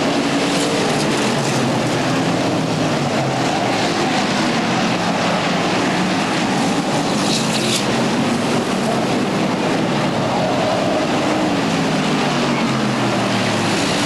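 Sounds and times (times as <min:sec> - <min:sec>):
stock car engines racing: 0:00.0 - 0:14.0.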